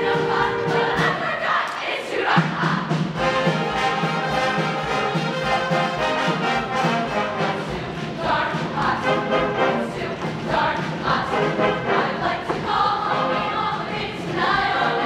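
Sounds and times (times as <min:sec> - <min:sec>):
female choir singing: 0:00.0 - 0:04.8, 0:06.0 - 0:15.0
steady drum beat: 0:00.0 - 0:15.0
instrumental accompaniment: 0:02.5 - 0:15.0.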